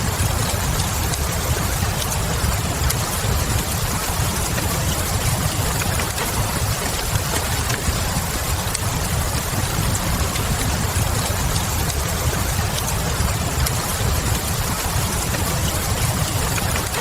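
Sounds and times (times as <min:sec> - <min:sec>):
rain hiss: 0:00.0 - 0:17.0
wood fire crackles: 0:00.0 - 0:17.0.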